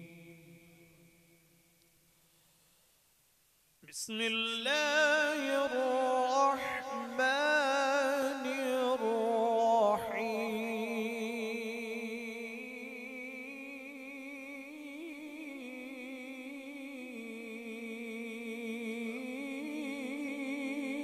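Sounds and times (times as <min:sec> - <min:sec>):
man chanting through microphone: 0:00.0 - 0:01.4, 0:03.8 - 0:21.0.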